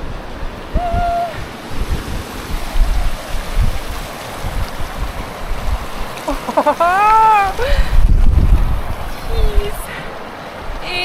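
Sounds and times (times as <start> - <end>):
meltwater rushing: 0.0 - 11.0
wind gusting on microphone: 0.0 - 11.0.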